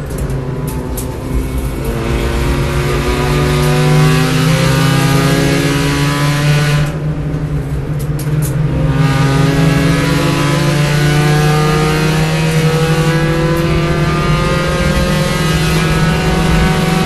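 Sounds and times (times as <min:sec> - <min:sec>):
race car engine from inside: 0:00.0 - 0:17.0.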